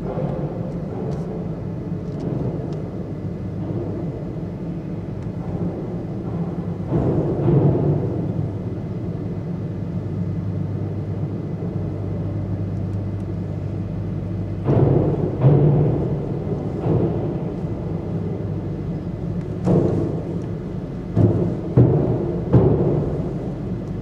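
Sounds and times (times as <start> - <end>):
car rumbling on ferry deck: 0.0 - 24.0
constant hum: 0.0 - 24.0.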